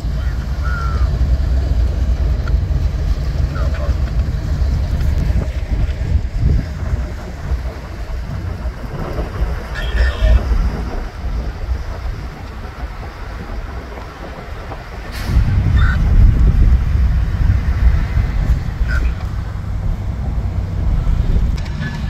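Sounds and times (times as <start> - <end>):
diesel locomotive idling rumble: 0.0 - 22.0
road noise: 0.0 - 22.0
wind: 0.0 - 22.0.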